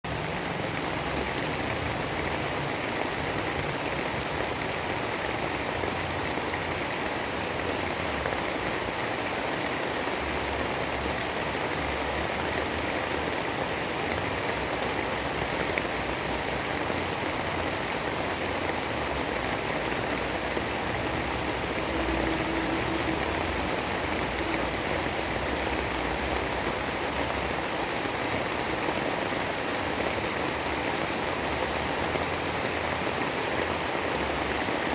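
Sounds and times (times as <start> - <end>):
rain hissing: 0.1 - 34.9.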